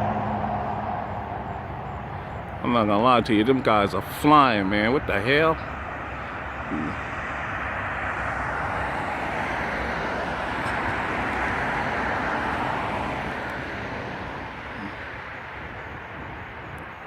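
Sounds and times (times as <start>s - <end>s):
vehicle passing by: 0.0s - 16.7s.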